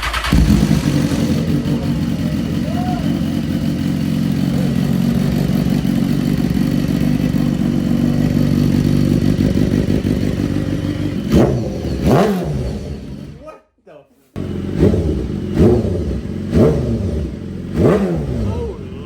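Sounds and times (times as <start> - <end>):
motorcycle engine idling and revving: 0.0 - 13.4, 14.4 - 19.0.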